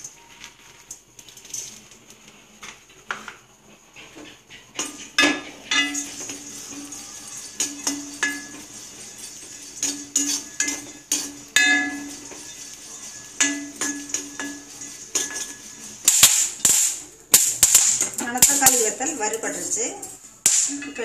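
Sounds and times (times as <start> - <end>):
metal spoon scraping a metal pan: 4.0 - 21.0.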